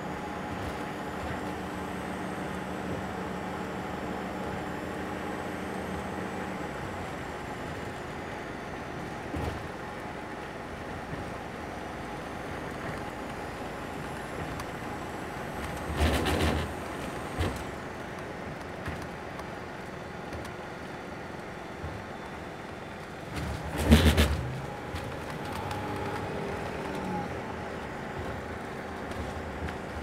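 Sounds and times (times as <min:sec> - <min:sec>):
vehicle road noise: 0:00.0 - 0:30.0.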